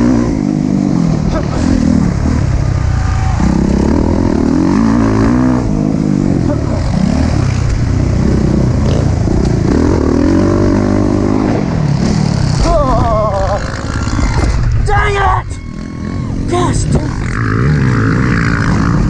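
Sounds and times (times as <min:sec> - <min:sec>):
dirt bike engine revving: 0:00.0 - 0:14.7, 0:15.6 - 0:19.0.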